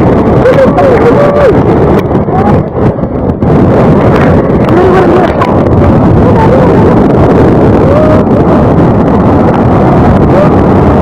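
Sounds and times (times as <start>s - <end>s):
river rushing in flood: 0.0s - 11.0s.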